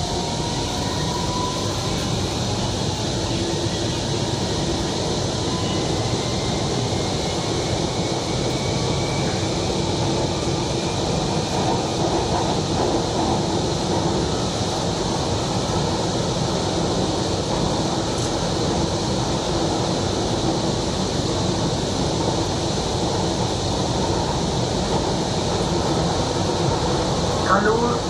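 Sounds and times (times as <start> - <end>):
train wheels and motors rumbling: 0.0 - 28.0.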